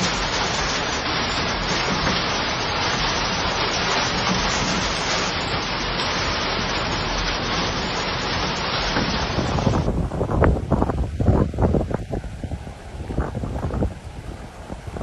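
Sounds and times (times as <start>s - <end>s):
heavy rain: 0.0s - 15.0s
rushing water: 0.0s - 15.0s.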